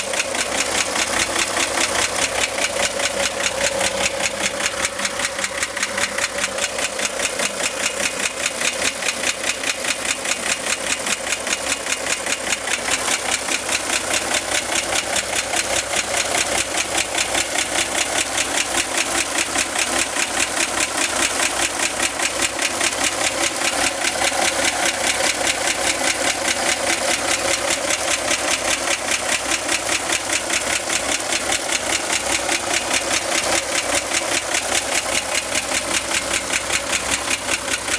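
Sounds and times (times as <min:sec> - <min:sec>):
car engine idling: 0:00.0 - 0:37.9
fast regular engine ticking: 0:00.0 - 0:37.9.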